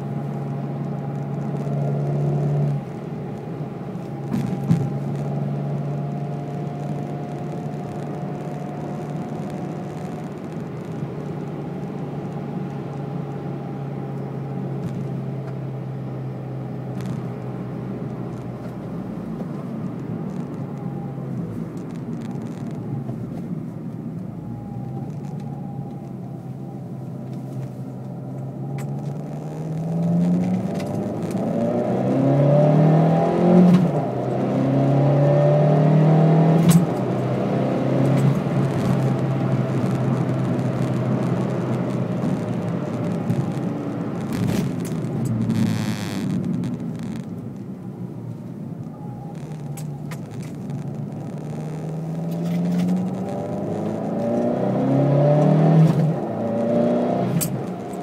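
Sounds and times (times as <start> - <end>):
car engine accelerating through gears: 0.0 - 58.0.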